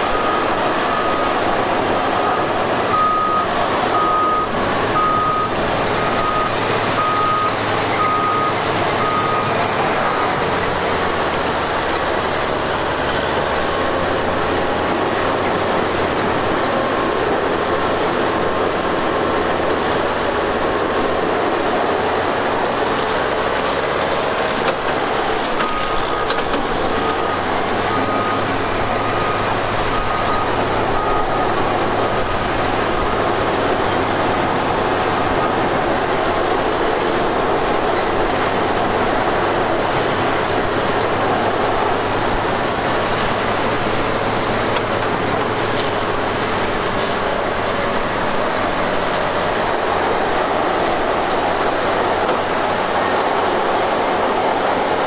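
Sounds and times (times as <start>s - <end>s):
diesel engines running: 0.0s - 55.0s
steel crawler tracks: 0.0s - 55.0s.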